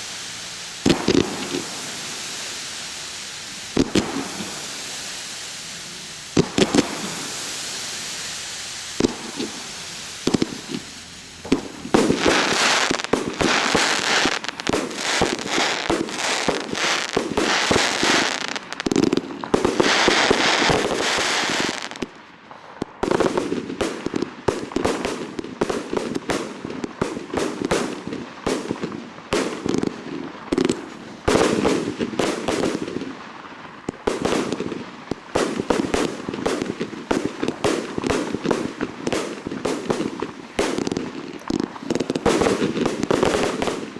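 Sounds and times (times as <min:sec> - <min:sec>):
fireworks bangs: 0:00.0 - 0:43.9
fireworks crackling and hissing: 0:00.0 - 0:43.9.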